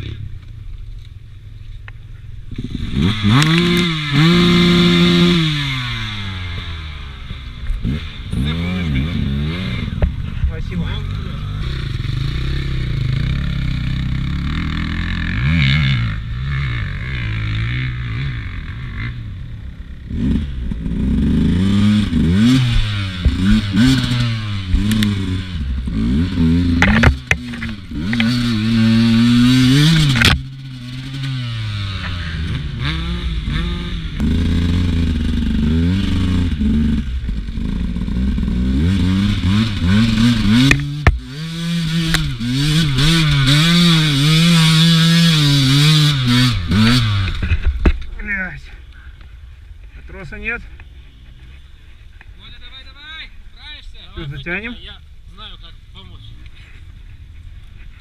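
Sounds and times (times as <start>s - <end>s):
motorcycle engine revving: 0.0s - 52.4s.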